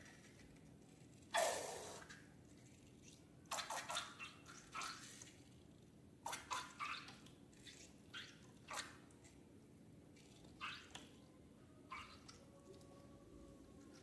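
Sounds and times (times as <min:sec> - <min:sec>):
slime squelching and dripping: 0:00.0 - 0:11.2, 0:11.9 - 0:12.8.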